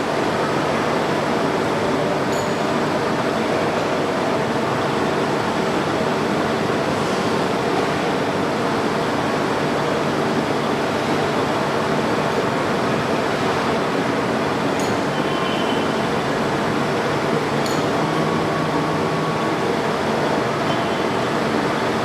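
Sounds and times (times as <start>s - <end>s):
lathe humming and whirring: 0.0s - 22.0s.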